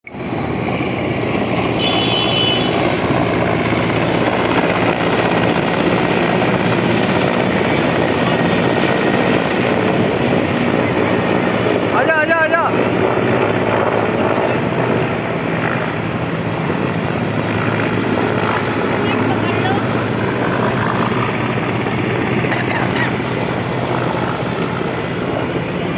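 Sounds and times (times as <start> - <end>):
helicopter rotor chopping: 0.1 - 25.9.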